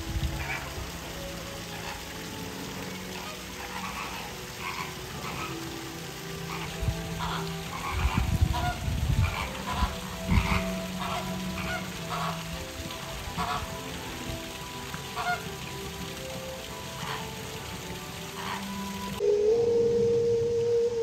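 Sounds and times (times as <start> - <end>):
flamingos honking and grunting: 0.0 - 21.0.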